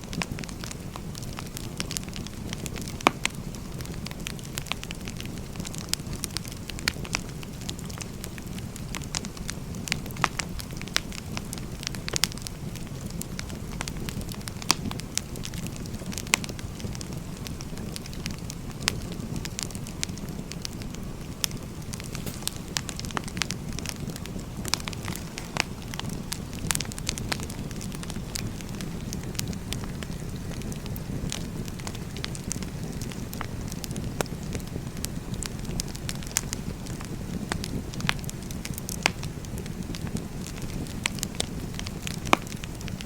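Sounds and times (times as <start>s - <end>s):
low rumble of flames: 0.0s - 43.0s
wood crackling and popping: 0.0s - 43.0s.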